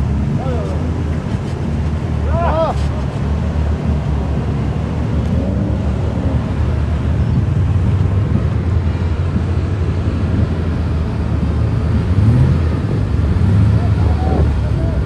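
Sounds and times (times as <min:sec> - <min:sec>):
vehicle engines idling and running: 0:00.0 - 0:15.0.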